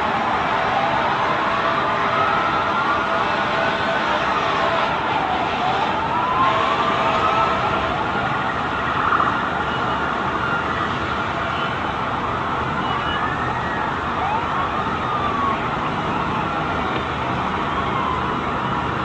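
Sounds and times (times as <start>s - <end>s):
city street noise: 0.0s - 19.0s
sirens wailing: 0.0s - 19.0s.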